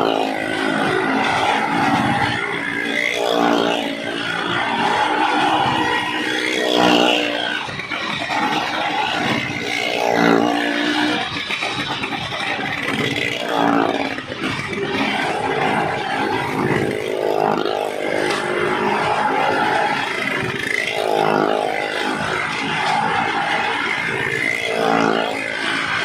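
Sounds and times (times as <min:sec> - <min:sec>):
vehicle engines revving: 0:00.0 - 0:26.0.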